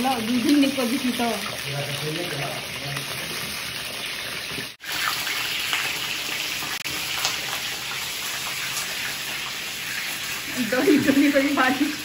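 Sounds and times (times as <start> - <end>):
eggplants sizzling in hot oil: 0.0 - 12.0
oil popping: 0.0 - 12.0.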